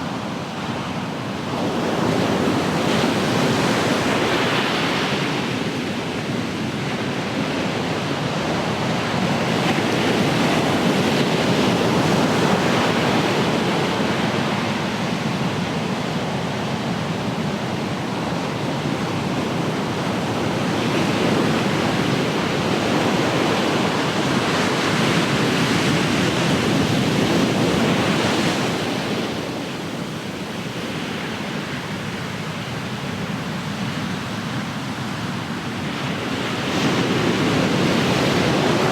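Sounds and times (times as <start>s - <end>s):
ocean surf washing on shore: 0.0s - 38.9s.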